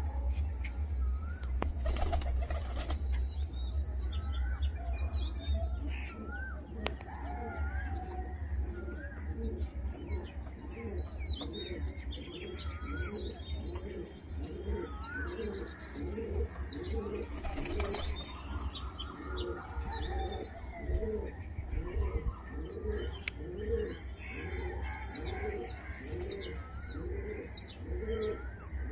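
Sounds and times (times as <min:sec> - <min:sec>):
pigeons cooing: 0:04.4 - 0:28.9.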